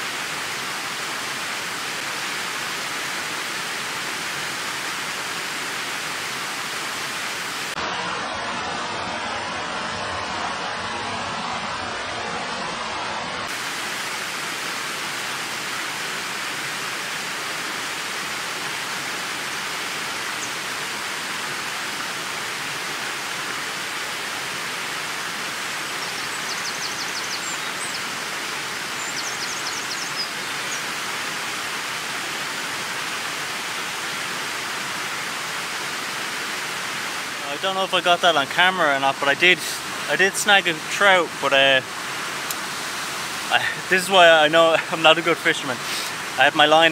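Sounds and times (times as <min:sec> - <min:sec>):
waterfall rushing over rocks: 0:00.0 - 0:46.9.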